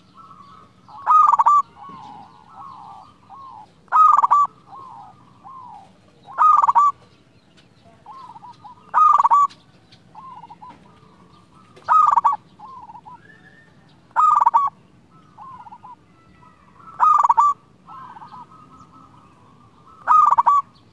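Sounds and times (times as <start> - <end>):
dove cooing: 0.0 - 7.2, 7.8 - 20.9.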